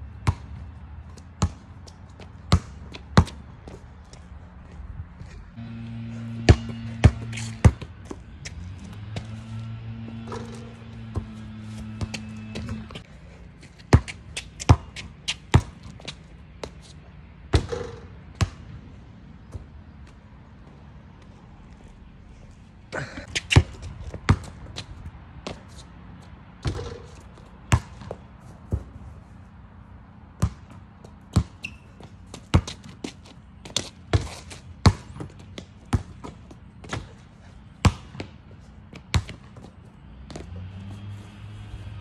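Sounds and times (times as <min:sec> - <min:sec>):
basketball bouncing on asphalt: 0:00.0 - 0:21.5, 0:23.0 - 0:41.0.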